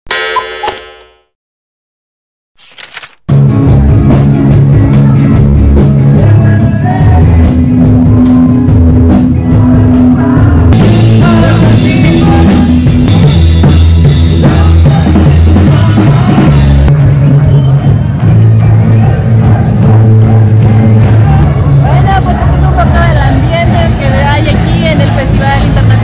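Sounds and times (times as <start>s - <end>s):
deep bass notes: 3.3s - 26.0s
drum kit beat: 3.3s - 26.0s
live band music: 3.3s - 26.0s.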